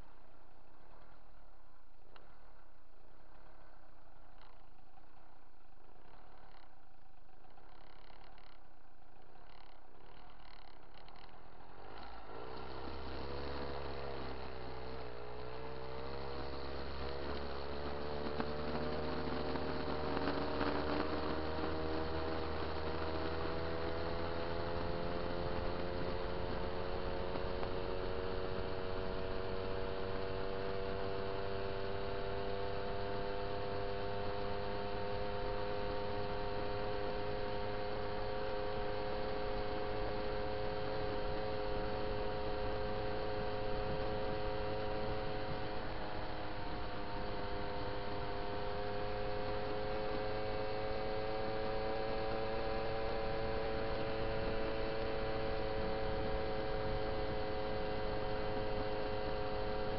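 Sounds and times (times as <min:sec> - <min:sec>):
moped engine running: 0:03.2 - 0:59.9.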